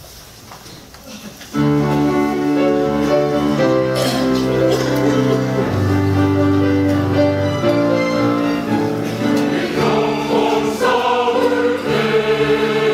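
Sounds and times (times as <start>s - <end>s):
keyboard playing held chords: 1.6s - 12.9s.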